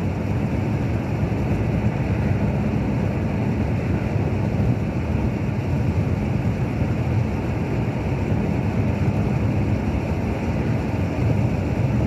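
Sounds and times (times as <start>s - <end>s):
car driving on road: 0.0s - 12.0s.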